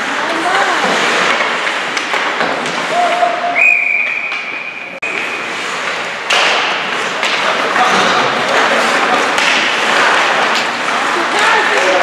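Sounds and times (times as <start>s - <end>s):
ice rink sounds: 0.0s - 12.0s.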